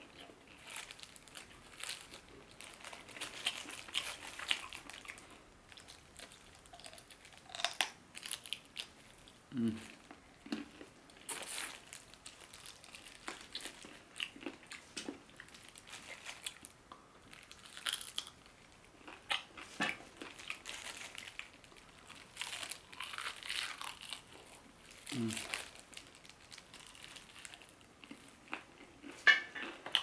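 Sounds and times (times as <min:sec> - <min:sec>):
crispy fried chicken crunching: 0:00.1 - 0:30.0.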